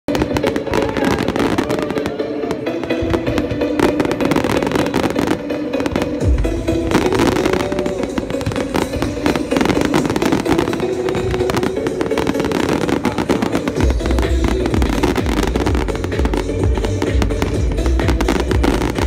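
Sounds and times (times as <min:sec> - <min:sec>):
fireworks bangs and crackling: 0:00.1 - 0:19.0
music on loudspeakers: 0:00.1 - 0:19.0.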